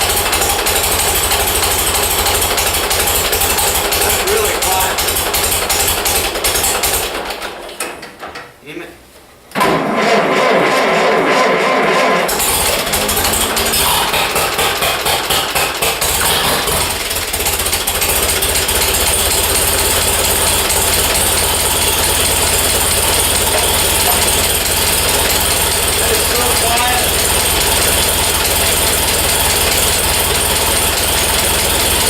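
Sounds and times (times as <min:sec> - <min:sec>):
tractor engine idling: 0:00.0 - 0:07.4, 0:10.4 - 0:32.0.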